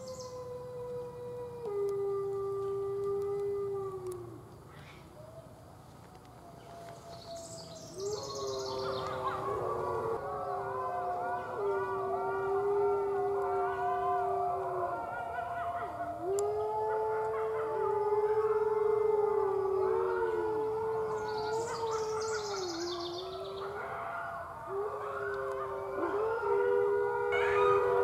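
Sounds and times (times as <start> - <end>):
wolves howling: 0.0 - 4.5, 5.1 - 28.0.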